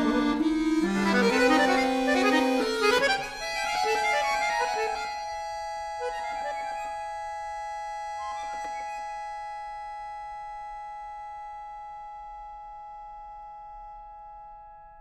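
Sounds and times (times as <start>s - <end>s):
accordion chord: 0.0s - 14.2s.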